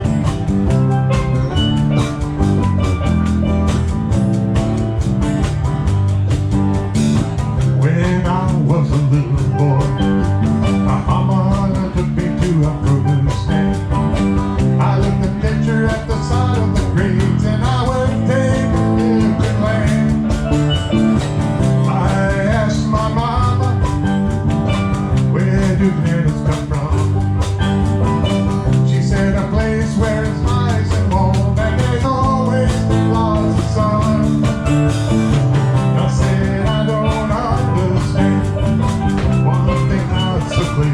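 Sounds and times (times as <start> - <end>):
bass guitar: 0.0 - 40.9
drum kit: 0.0 - 40.9
guitar: 0.0 - 40.9
steel drums: 0.0 - 40.9.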